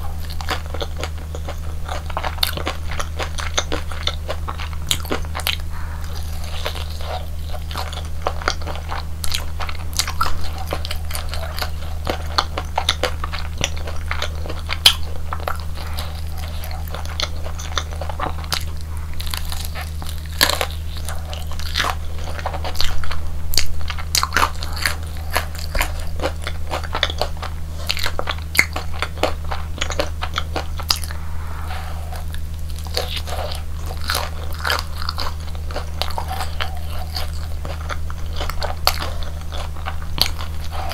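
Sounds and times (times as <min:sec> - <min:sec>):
crunchy chewing: 0:00.0 - 0:40.9
steady low hum: 0:00.0 - 0:40.9.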